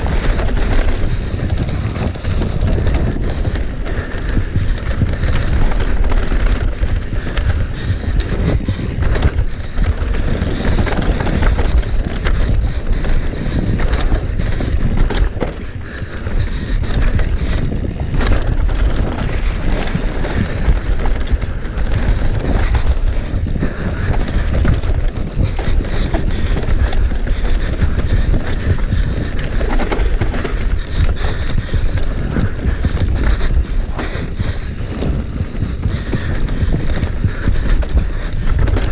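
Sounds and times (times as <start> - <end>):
bike clattering over roots: 0.0 - 38.9
tyres rumbling on dirt: 0.0 - 38.9
wind buffeting microphone: 0.0 - 38.9.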